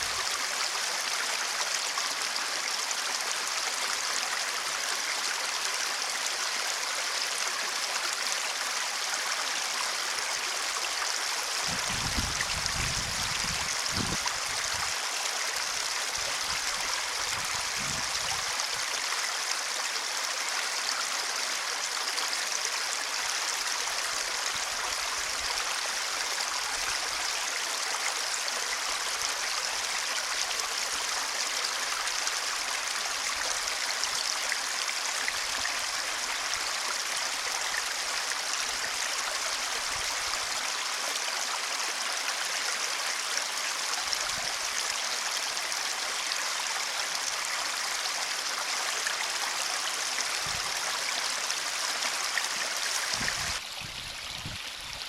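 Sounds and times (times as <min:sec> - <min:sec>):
water flowing in a ditch: 0:00.0 - 0:55.0.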